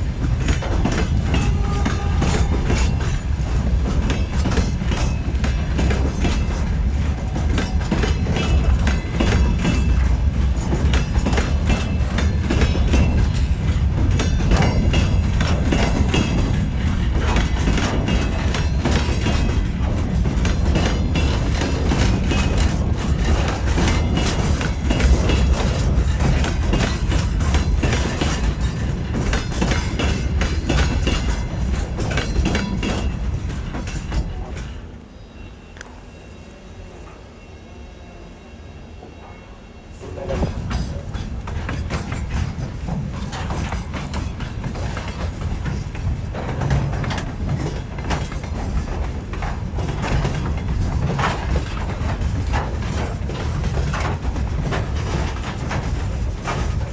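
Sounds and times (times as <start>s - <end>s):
train wheels clattering over rail joints: 0.0s - 35.0s, 40.0s - 56.9s
train rumble: 0.0s - 56.9s.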